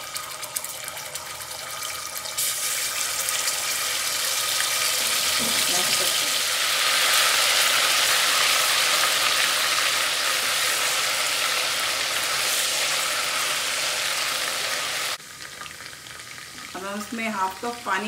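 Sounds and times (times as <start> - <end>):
paste sizzling in hot oil: 1.3 - 16.8.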